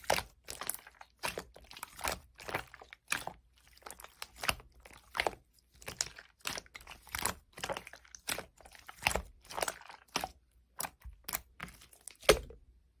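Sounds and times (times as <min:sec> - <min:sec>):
slime squishing and popping: 0:00.0 - 0:12.6.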